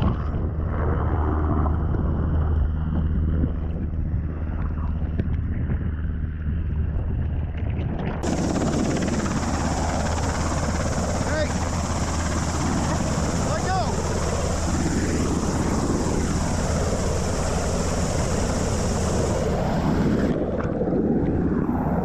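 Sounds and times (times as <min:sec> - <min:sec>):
helicopter rotors beating: 0:00.0 - 0:22.0
wind on microphone: 0:00.0 - 0:22.0.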